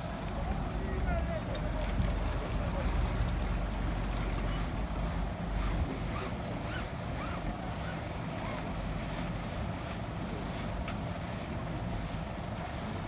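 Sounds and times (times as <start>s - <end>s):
boat noise: 0.0s - 13.0s
water noise: 0.0s - 13.0s.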